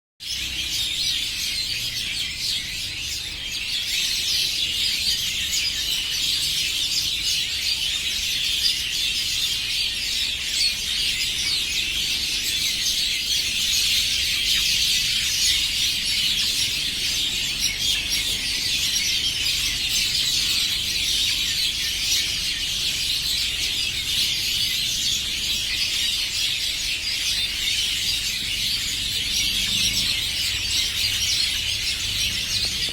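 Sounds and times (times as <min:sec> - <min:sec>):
small birds chirping: 0:00.2 - 0:32.9.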